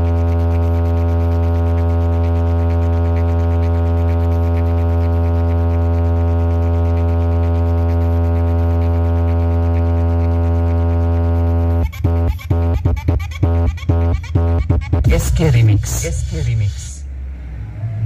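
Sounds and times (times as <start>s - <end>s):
electrical mains hum from speakers: 0.0s - 18.0s.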